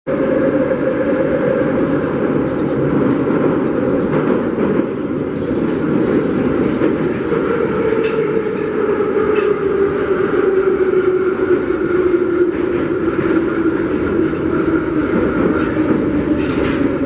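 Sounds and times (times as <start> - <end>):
train rumbling in tunnel: 0.1 - 17.0.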